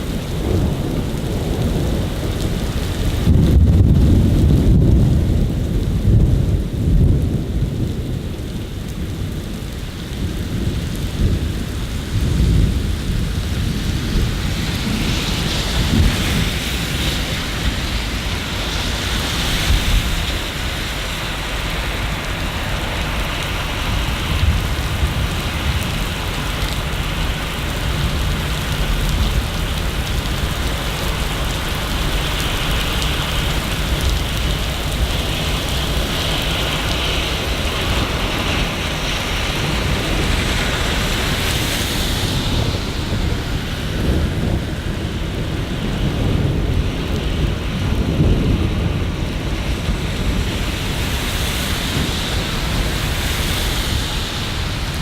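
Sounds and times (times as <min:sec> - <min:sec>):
low thunder rumbling: 0:00.0 - 0:55.0
steady rain: 0:00.0 - 0:55.0.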